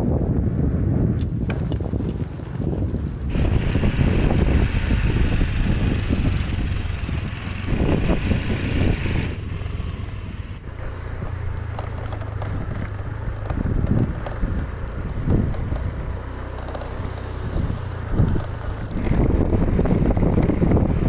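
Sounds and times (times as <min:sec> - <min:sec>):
bicycle tyre rumble: 0:00.0 - 0:21.0
wind buffeting microphone: 0:00.0 - 0:21.0.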